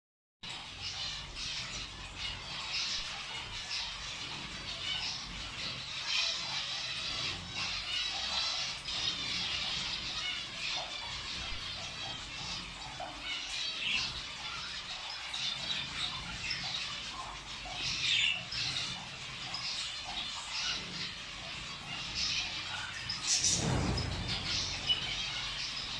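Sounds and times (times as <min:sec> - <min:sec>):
birds chirping and squawking: 0:00.4 - 0:25.9.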